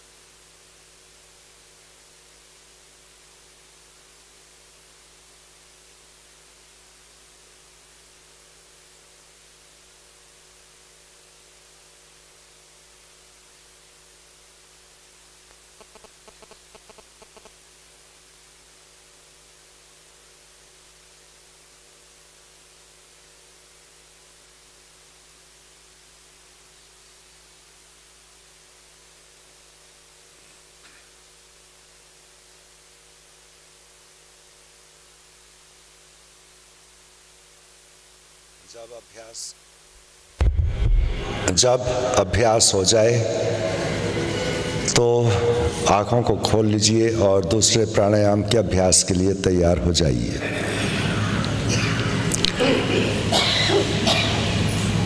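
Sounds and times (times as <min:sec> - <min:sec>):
faint electrical hum and hiss: 0:00.0 - 0:55.0.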